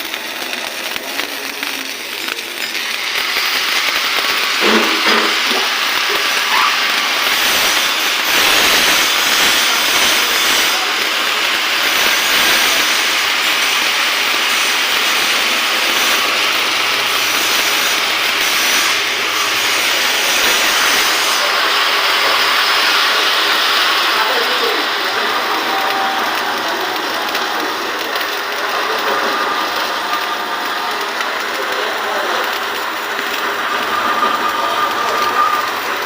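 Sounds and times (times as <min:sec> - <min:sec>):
arc welding hiss: 0:00.0 - 0:36.0.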